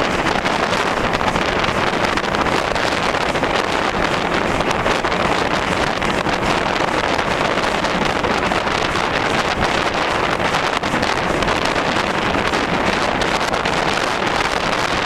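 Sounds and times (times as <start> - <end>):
steam locomotive running: 0.0 - 15.0
wind buffeting microphone: 0.0 - 15.0.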